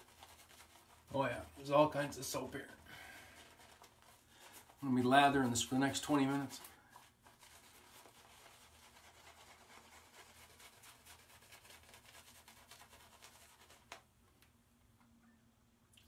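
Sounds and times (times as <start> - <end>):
shaving brush bristles crackling: 0.0 - 14.0.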